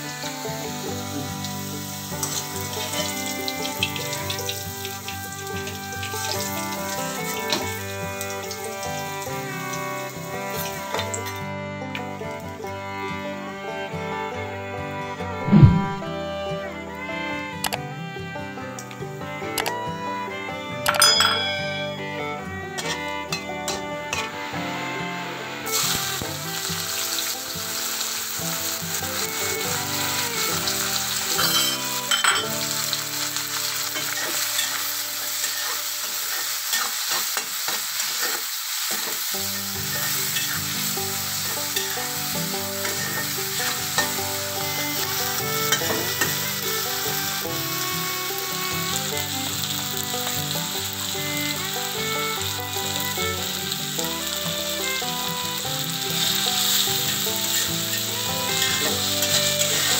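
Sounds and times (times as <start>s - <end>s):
oil sizzling in wok: 0.0s - 11.4s, 12.2s - 12.7s, 20.8s - 24.3s, 25.6s - 59.9s.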